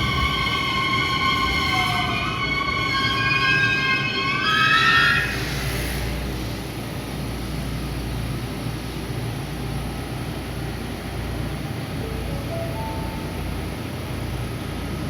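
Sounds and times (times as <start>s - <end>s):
electric train motor whine: 0.0s - 15.0s
moving train rumble: 0.0s - 15.0s.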